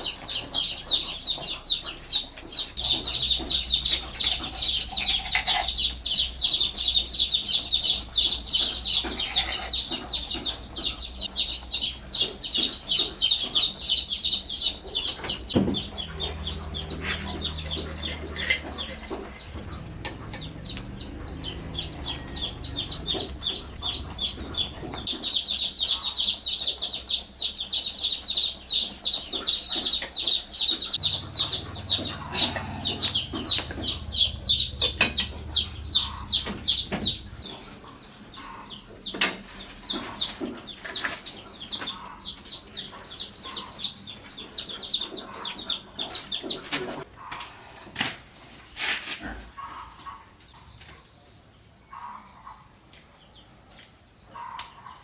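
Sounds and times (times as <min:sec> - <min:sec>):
chickens cheeping: 0:00.0 - 0:47.9, 0:48.6 - 0:55.0.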